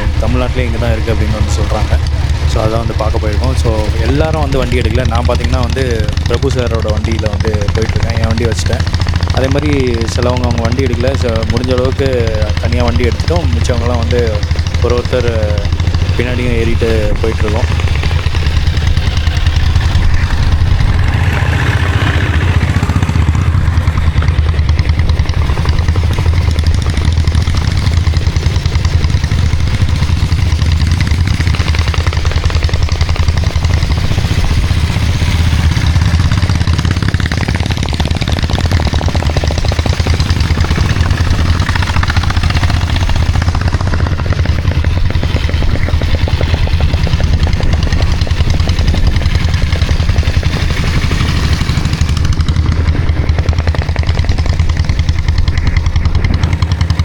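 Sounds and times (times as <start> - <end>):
motorcycle engine throbbing: 0.0 - 57.0.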